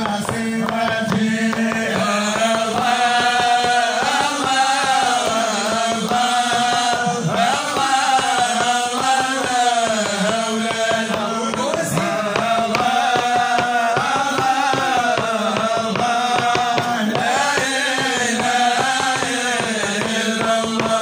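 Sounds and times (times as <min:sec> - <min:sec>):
men chanting devotional song: 0:00.0 - 0:21.0
steady rhythmic beat: 0:00.0 - 0:21.0.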